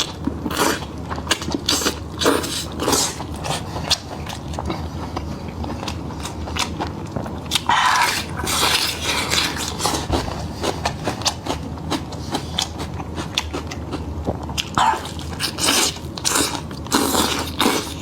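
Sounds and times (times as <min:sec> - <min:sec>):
person chewing meat: 0:00.0 - 0:18.0.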